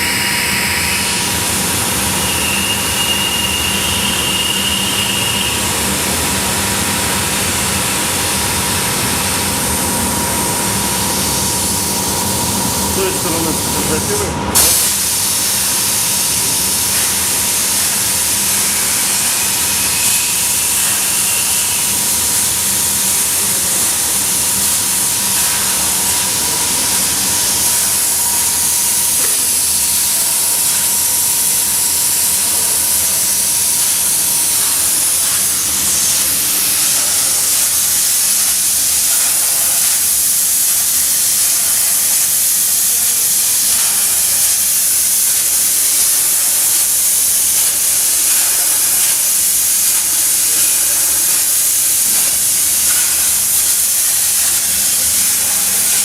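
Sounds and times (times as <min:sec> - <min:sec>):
plasma cutter hissing: 0:00.0 - 0:56.0.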